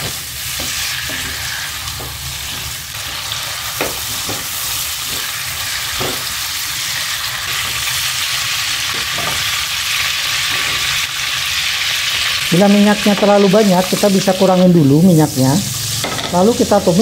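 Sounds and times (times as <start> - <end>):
squid sizzling in oil: 0.0 - 17.0.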